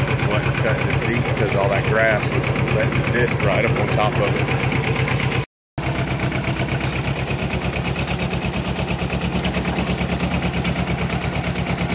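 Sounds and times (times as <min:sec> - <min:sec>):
tractor diesel engine chugging: 0:00.0 - 0:11.9.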